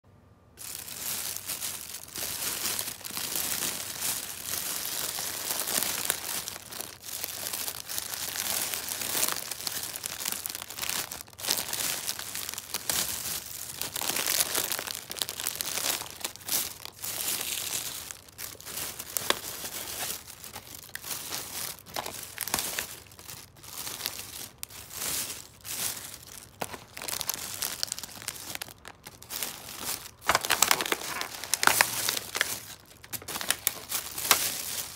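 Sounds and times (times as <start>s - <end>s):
plastic bag and wrappers crinkling: 0.6s - 34.9s.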